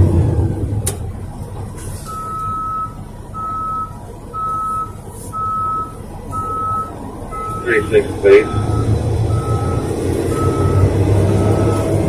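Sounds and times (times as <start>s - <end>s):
diesel engine rumble: 0.0s - 12.0s
reversing alarm beeping: 2.1s - 12.0s.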